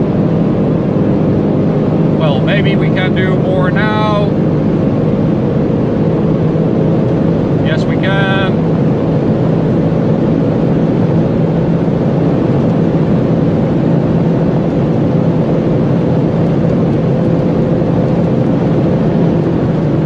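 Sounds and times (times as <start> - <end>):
car engine droning: 0.0 - 20.0
wind and tyre roar: 0.0 - 20.0.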